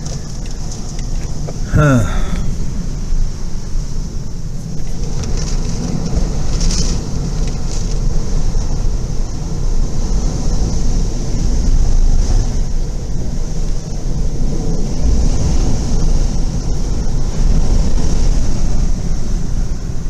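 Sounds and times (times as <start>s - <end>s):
hurricane wind blowing: 0.0s - 20.0s
wind buffeting microphone: 0.0s - 20.0s.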